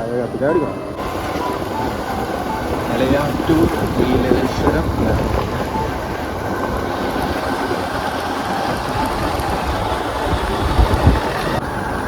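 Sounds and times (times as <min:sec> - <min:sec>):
wind noise on microphone: 0:00.3 - 0:12.0
motorbike engine and road rumble: 0:01.0 - 0:12.0.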